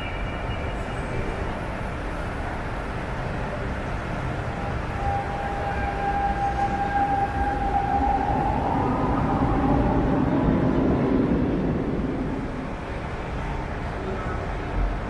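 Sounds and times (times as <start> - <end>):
metro train whine: 0.0 - 15.0
train rumble: 0.0 - 15.0.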